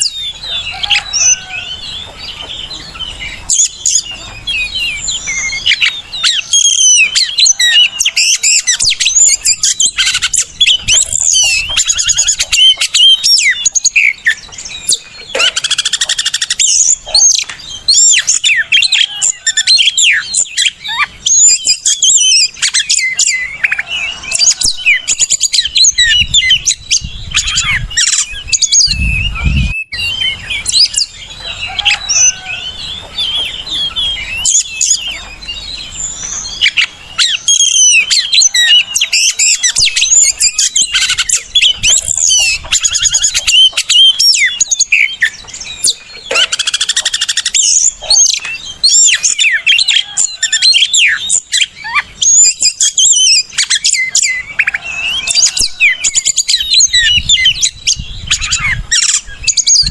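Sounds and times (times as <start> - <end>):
songbird whistles and chirps: 0.0 - 59.9.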